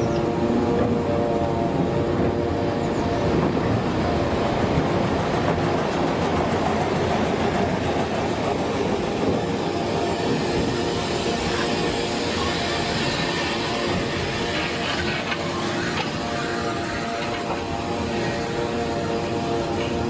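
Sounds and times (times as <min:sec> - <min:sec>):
small train running: 0:00.0 - 0:20.0.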